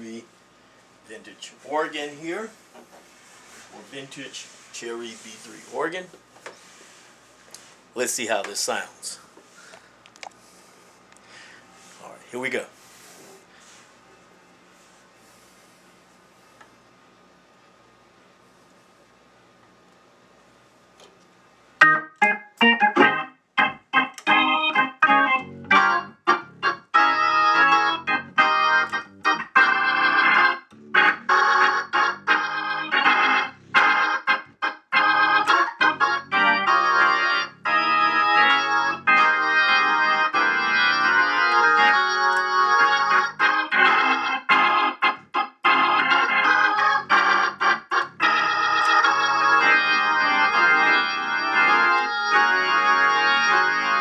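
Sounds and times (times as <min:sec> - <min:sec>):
organ chords through rotating speaker: 0:00.0 - 0:54.0.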